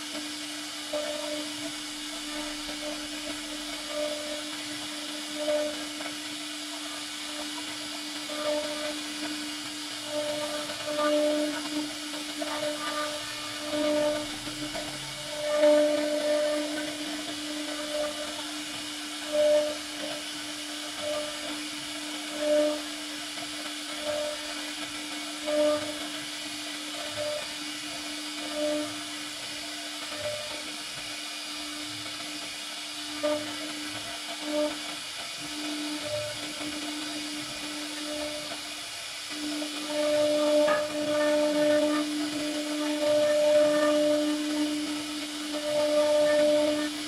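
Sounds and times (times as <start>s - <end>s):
cnc router spindle whining: 0.0s - 47.0s.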